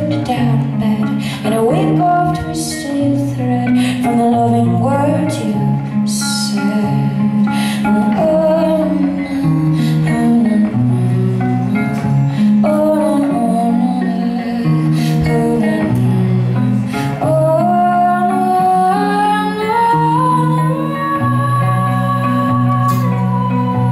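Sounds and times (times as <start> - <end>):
live guitar music: 0.0 - 23.9.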